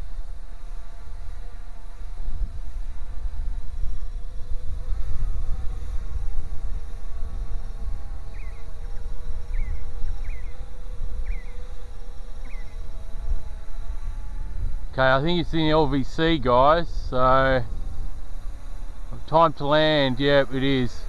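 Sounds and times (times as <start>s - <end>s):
drone propellers buzzing: 0.0s - 21.0s
wind rumble on microphone: 0.0s - 21.0s.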